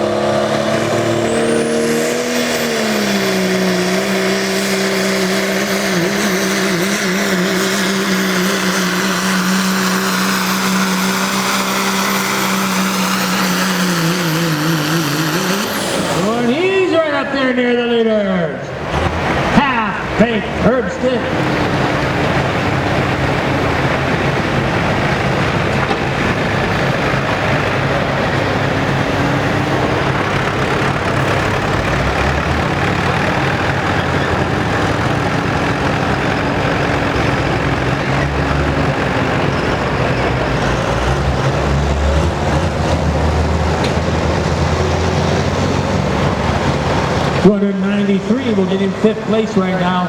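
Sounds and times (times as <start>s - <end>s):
diesel truck engine under load: 0.0s - 50.0s.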